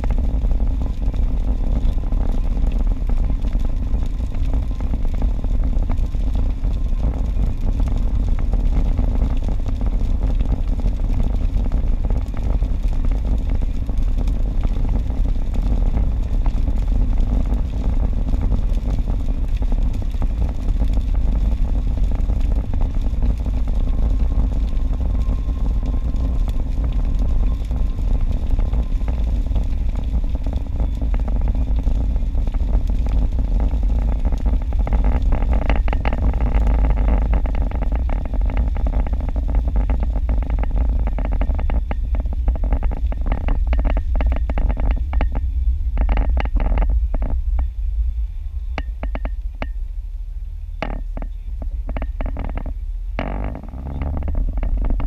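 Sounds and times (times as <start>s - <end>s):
car driving rumble: 0.0s - 55.0s
rain ticking on windshield: 0.0s - 55.0s.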